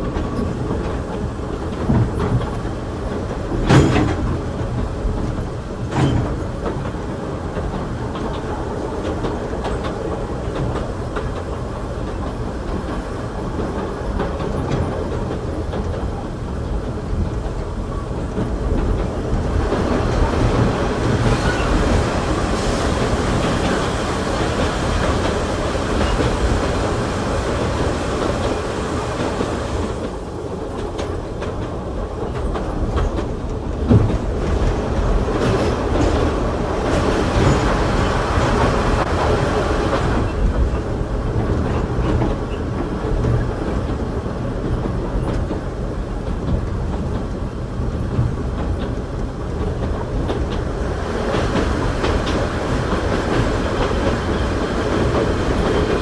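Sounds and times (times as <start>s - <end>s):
train rumble: 0.0s - 56.0s
train wheels clacking: 0.0s - 56.0s.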